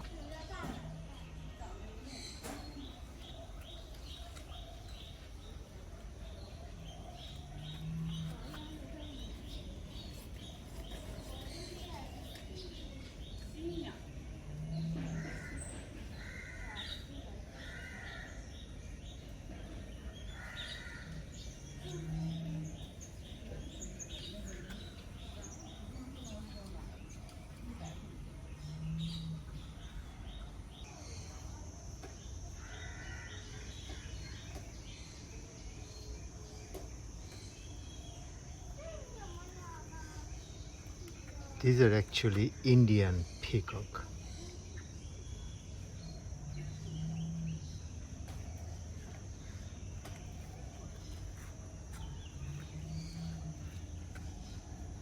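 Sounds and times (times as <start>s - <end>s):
birds chirping and calling: 0.0s - 55.0s.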